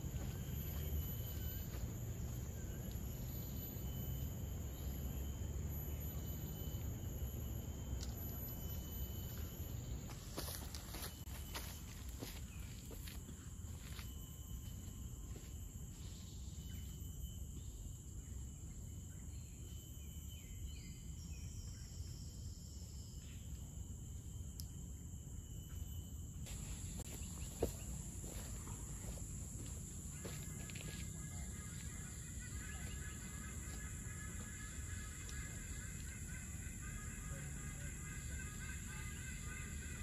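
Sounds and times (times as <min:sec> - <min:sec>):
high-pitched insect drone: 0:00.0 - 0:40.0.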